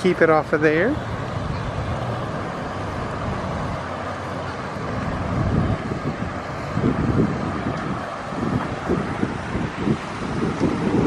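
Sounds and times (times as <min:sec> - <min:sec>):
small waterfall rushing: 0:00.0 - 0:11.0
wind buffeting microphone: 0:00.0 - 0:11.0.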